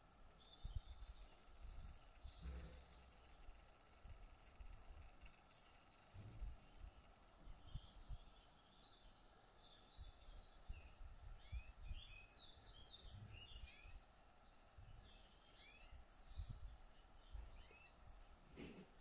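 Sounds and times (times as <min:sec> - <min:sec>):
small birds chirping: 0:00.0 - 0:19.0
soft low rumbles: 0:00.3 - 0:19.0.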